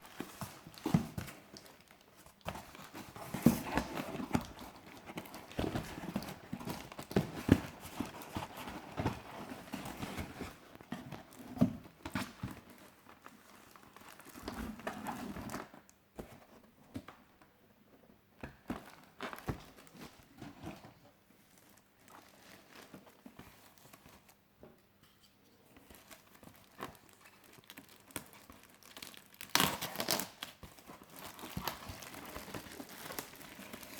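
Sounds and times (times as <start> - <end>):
cardboard and plastic crinkling: 0.0 - 17.2, 18.4 - 24.4, 25.7 - 33.9.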